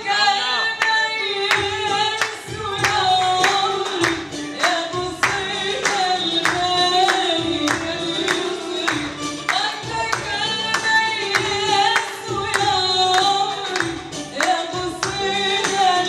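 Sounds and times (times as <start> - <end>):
people clapping along: 0.0 - 16.0
woman singing into microphone: 0.0 - 16.0.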